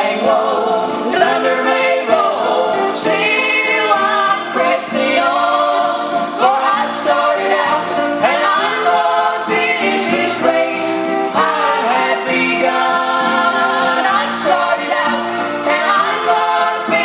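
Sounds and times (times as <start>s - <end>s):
gospel group singing in harmony: 0.0s - 17.0s.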